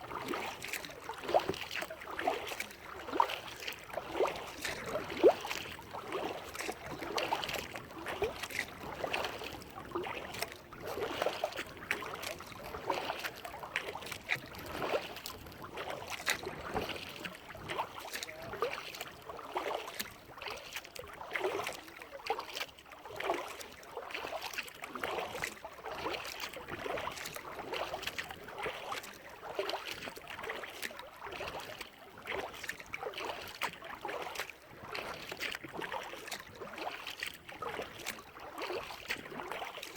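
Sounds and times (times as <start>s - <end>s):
paddle strokes in water: 0.0s - 39.9s.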